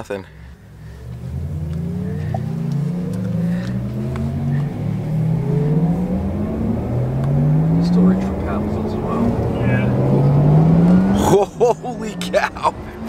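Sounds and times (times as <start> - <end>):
electric car drive hum rising: 0.4 - 13.0.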